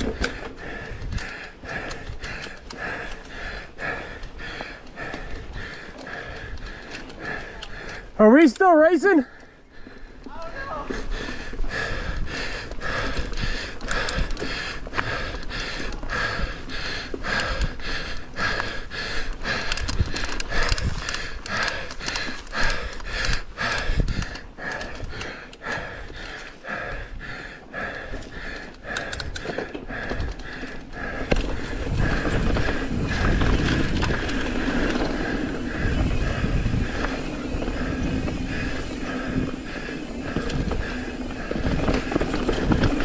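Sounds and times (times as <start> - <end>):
person panting hard: 0.0 - 8.2, 9.1 - 43.0
bike rattling on dirt trail: 0.0 - 43.0.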